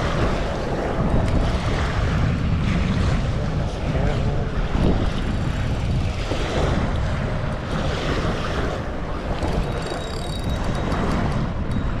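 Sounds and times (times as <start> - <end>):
waves washing: 0.0 - 12.0
wind buffeting microphone: 0.0 - 12.0.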